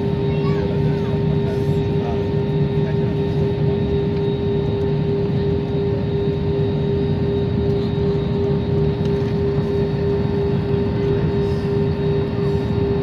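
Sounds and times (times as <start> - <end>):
jet engines humming in cabin: 0.0 - 13.0.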